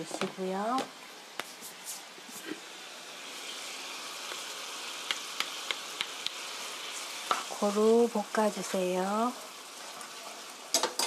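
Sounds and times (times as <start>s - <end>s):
chicken sizzling in a frying pan: 2.1s - 11.0s.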